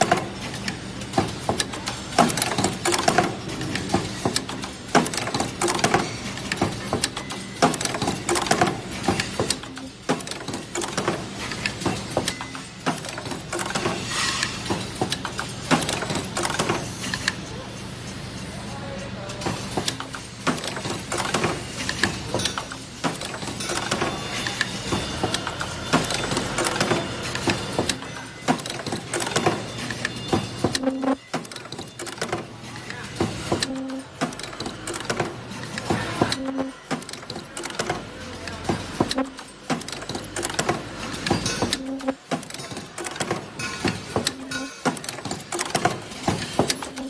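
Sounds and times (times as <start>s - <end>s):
mechanical clicks and clacks: 0.0s - 17.4s, 19.3s - 47.0s.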